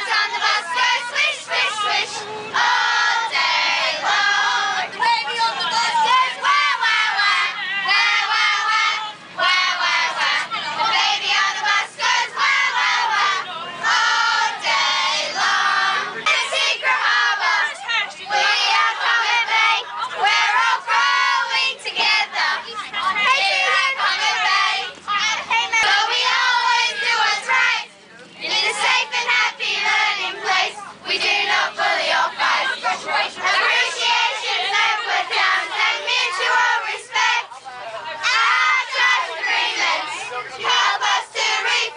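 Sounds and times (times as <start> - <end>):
children singing and shouting: 0.0 - 41.9.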